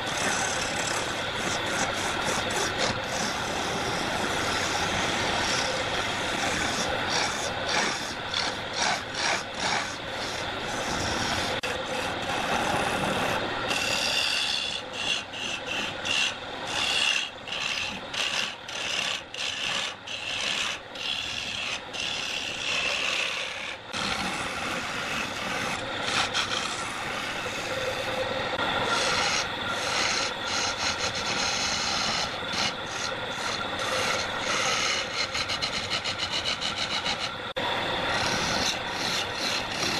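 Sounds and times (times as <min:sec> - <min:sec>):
turning tool scraping wood: 0:00.0 - 0:39.9.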